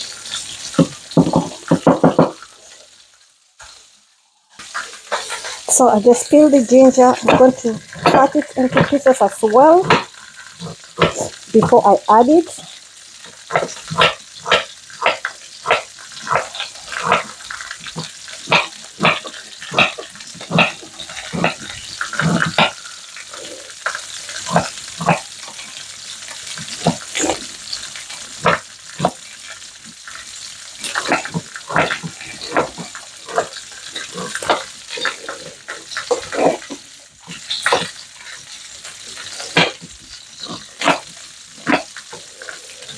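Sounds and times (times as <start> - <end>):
food sizzling in a pan: 0.0 - 42.9.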